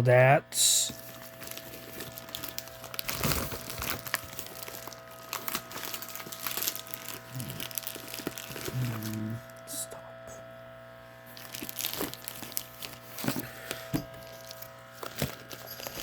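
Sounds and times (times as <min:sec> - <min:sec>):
packaging crinkling and rustling: 0:00.9 - 0:09.7, 0:11.3 - 0:16.0.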